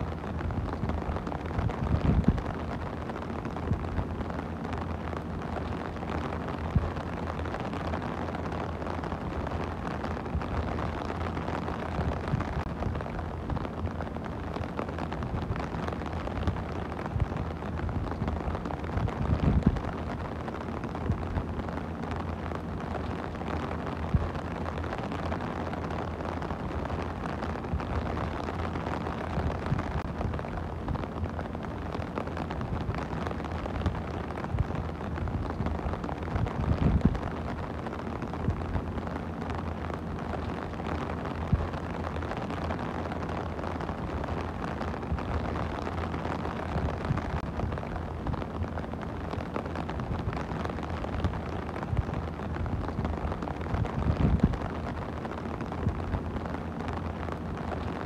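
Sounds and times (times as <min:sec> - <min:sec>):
rain on plastic umbrella: 0:00.0 - 0:58.0.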